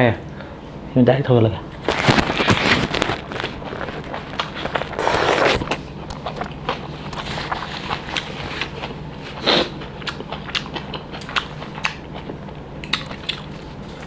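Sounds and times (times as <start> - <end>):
steady low hum: 0.0 - 14.0
man chewing food: 1.8 - 14.0.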